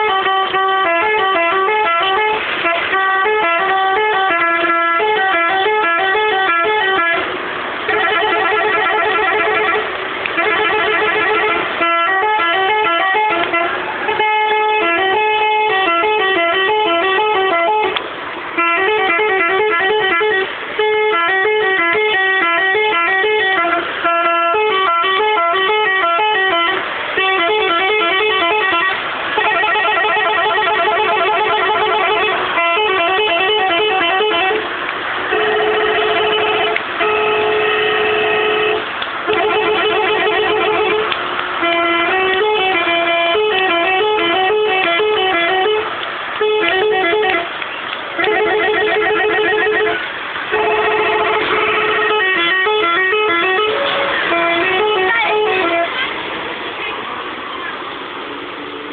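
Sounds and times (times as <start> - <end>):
multi-tone air horn melody: 0.0 - 56.2.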